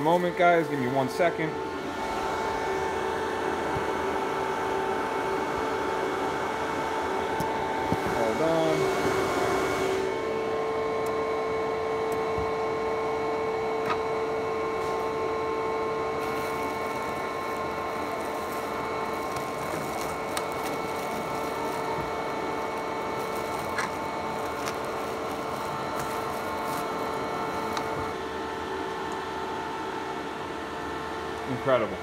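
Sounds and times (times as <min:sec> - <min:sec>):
cooling fans whirring: 0:00.0 - 0:32.0.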